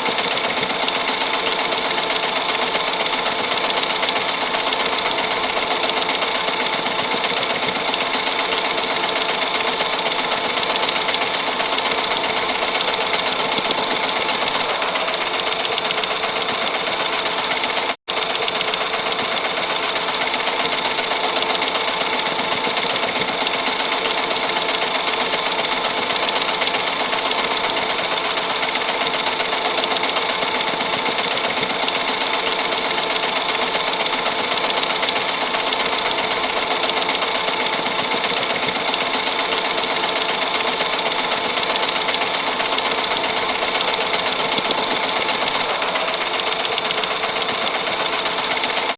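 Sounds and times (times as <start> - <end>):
film projector mechanical whir: 0.0 - 48.9.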